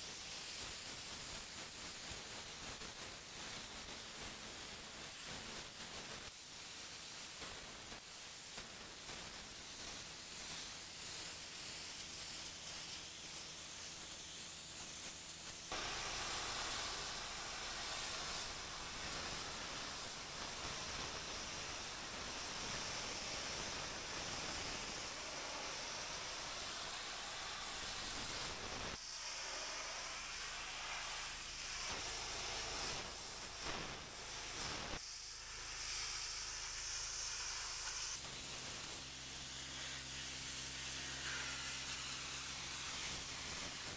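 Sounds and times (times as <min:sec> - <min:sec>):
pressure washer spraying stone: 0:00.0 - 0:43.9.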